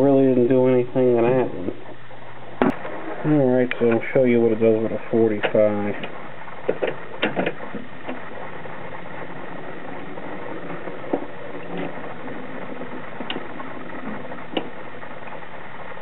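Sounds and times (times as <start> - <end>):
record changer mechanical whir: 0.0 - 16.0.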